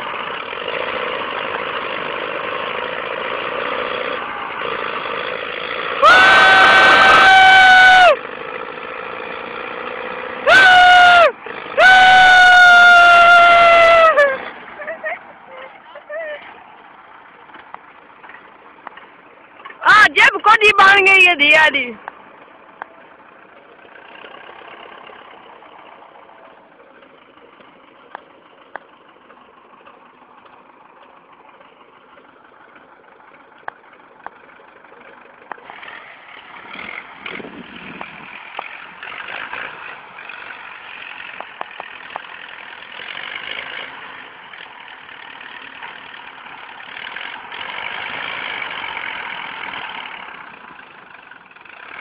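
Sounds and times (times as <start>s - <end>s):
tractor diesel engine running hard: 0.0s - 52.0s.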